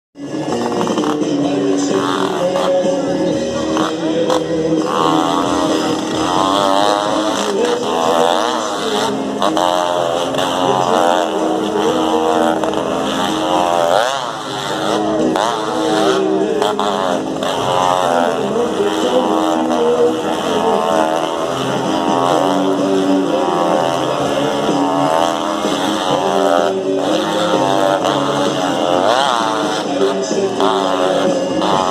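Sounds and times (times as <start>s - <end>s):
motorcycles revving: 0.2s - 31.9s.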